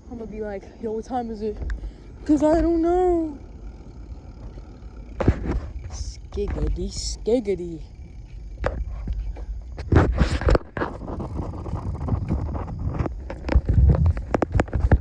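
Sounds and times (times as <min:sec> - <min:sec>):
bicycle rolling on road: 0:00.0 - 0:15.0
wind buffeting microphone: 0:00.0 - 0:15.0.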